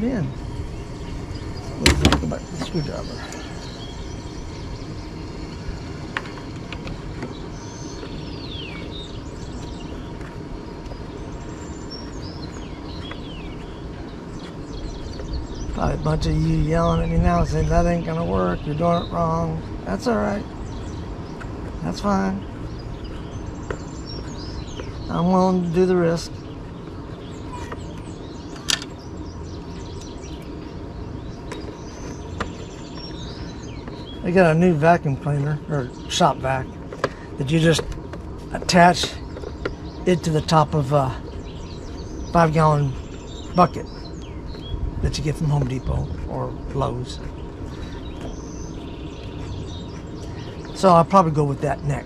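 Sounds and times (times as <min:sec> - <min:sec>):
birds chirping: 0:00.0 - 0:52.0
steady low rumble: 0:00.0 - 0:52.0.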